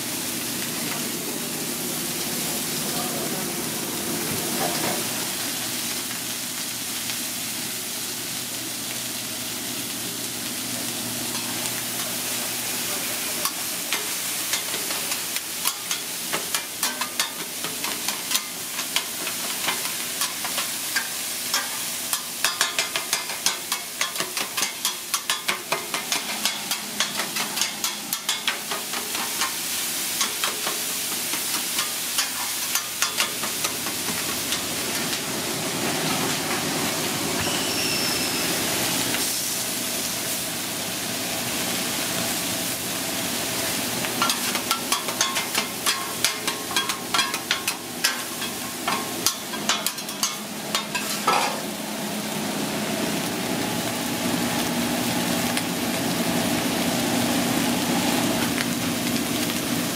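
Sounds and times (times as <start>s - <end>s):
meat sizzling on a griddle: 0.0s - 59.9s.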